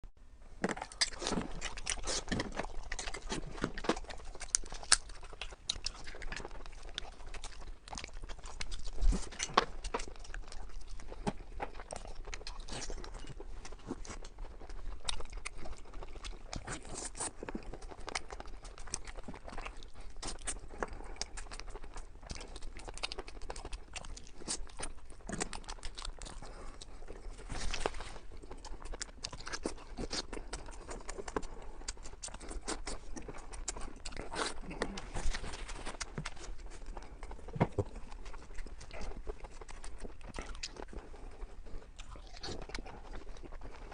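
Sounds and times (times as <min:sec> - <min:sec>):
person chewing crunchy food: 0:00.6 - 0:43.9.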